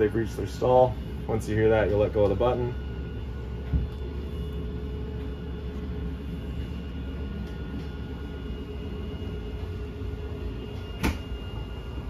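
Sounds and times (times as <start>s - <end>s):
electric motor drone and whine: 0.0s - 12.0s.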